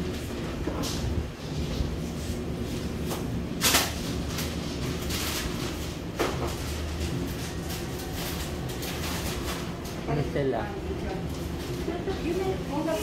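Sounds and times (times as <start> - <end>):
low hum of shop: 0.0 - 13.0.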